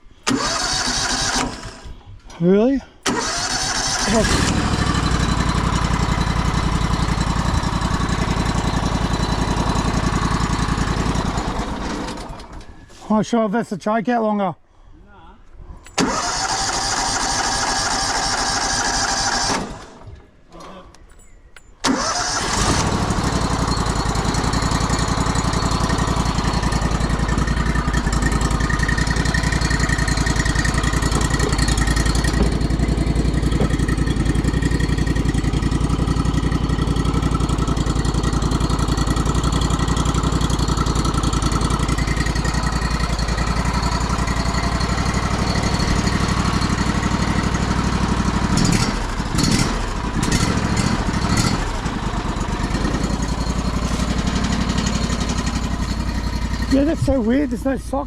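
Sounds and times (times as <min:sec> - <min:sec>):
sawmill engine starting and running: 0:00.1 - 0:02.2, 0:03.0 - 0:13.0, 0:15.9 - 0:20.2, 0:21.8 - 0:58.0.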